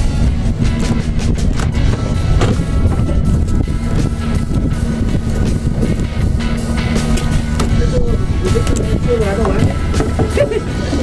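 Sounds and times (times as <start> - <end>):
background music with drums: 0.0 - 11.0
low rumble: 0.0 - 11.0.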